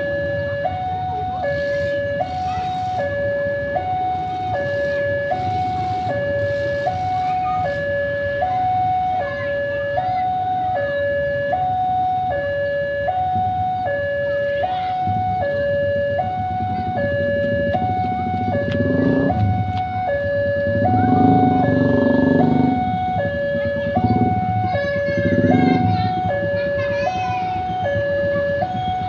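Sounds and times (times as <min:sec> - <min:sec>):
motorcycle engines idling: 0:00.0 - 0:29.0
two-tone crossing alarm: 0:00.0 - 0:29.0.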